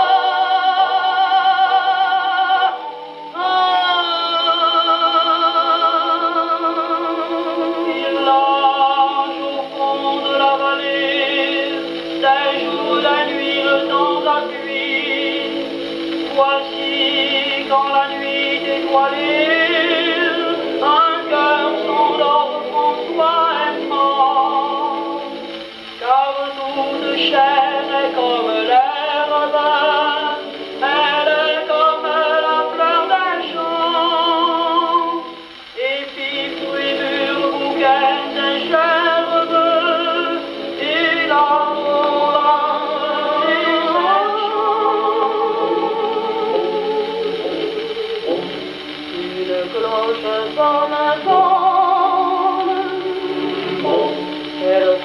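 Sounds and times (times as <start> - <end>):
men and women singing on gramophone: 0.0 - 55.0.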